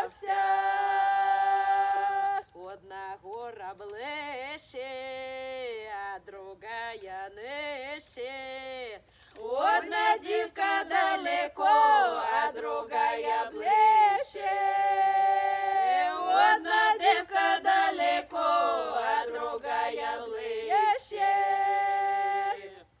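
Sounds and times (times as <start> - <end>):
folk choir singing a cappella: 0.0 - 23.0.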